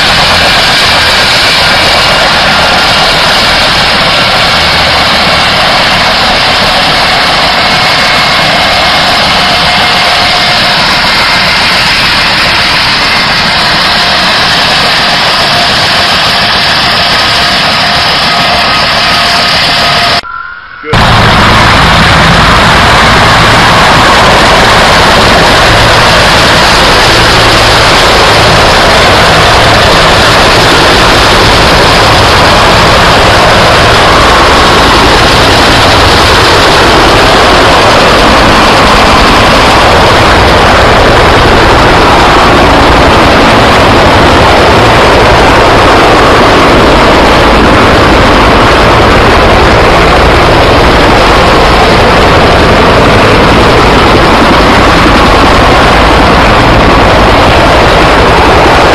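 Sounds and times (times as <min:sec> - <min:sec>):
helicopter rotor and engine noise: 0:00.0 - 0:58.9.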